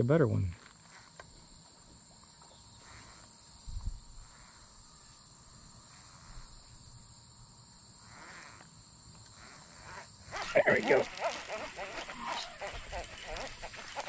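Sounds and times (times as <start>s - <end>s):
high-pitched insect drone: 0.6s - 14.0s.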